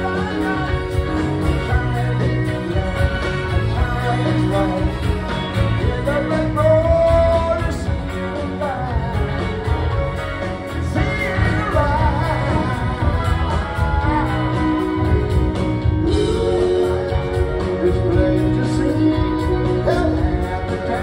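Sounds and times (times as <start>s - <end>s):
lead vocals singing: 0.0s - 9.8s, 10.6s - 21.0s
live rock band playing: 0.0s - 21.0s.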